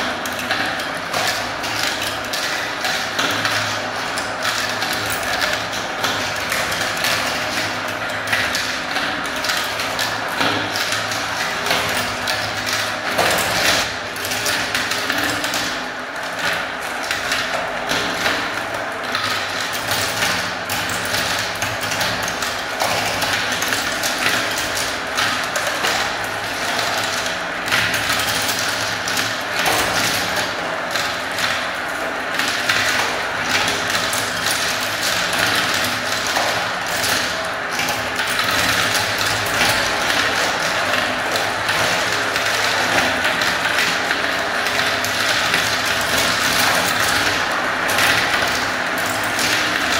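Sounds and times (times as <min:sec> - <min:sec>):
plastic balls rattling in marble run: 0:00.0 - 0:49.9.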